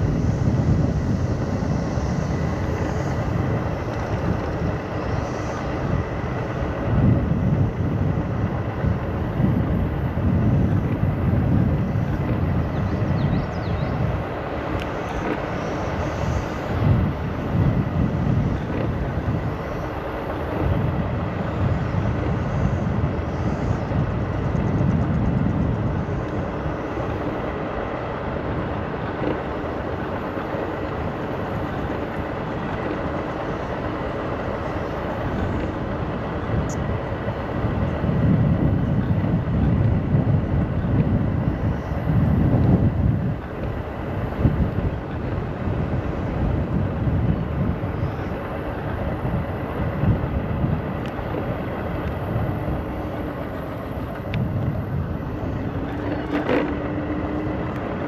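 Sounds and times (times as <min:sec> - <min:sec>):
faint steady whine: 0:00.0 - 0:58.0
wind rumbling on microphone: 0:00.0 - 0:58.0.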